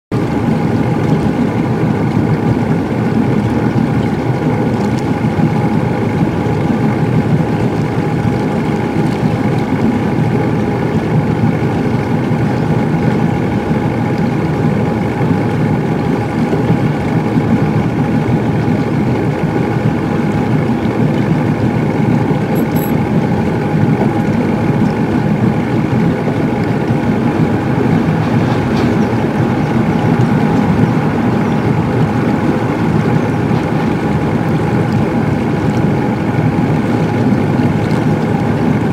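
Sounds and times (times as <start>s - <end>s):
boat motor humming: 0.1s - 38.9s.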